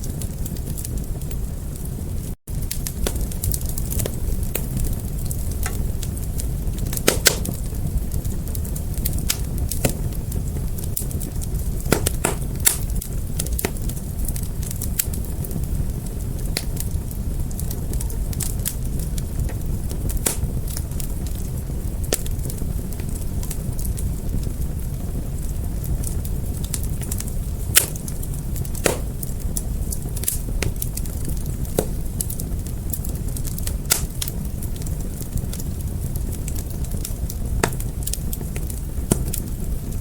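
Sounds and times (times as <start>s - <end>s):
fire crackling pops: 0.0s - 40.0s
fire low rumble: 0.0s - 40.0s.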